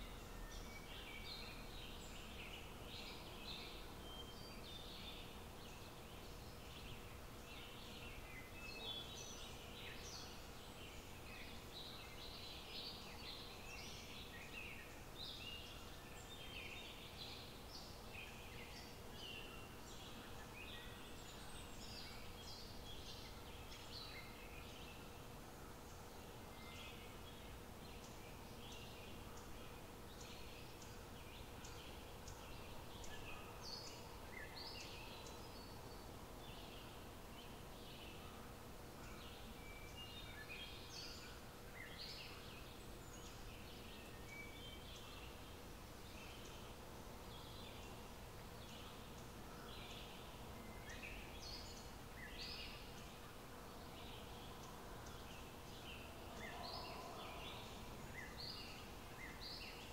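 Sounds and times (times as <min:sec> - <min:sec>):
low steady background noise: 0:00.0 - 0:59.9.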